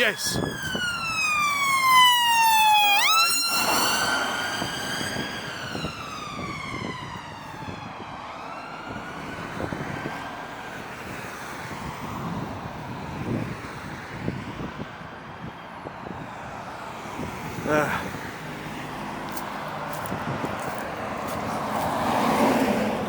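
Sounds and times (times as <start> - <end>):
emergency siren wailing: 0.0 - 23.0
road traffic noise: 0.0 - 23.0.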